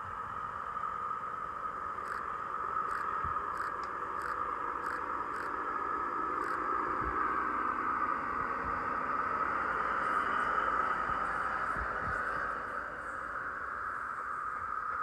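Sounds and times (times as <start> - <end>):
train passing with high drone: 0.0 - 15.0.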